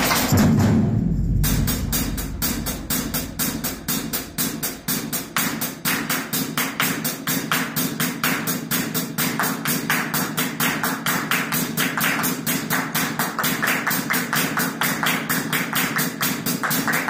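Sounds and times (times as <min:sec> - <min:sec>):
percussion rapid taps: 0:00.0 - 0:00.5, 0:02.6 - 0:17.0.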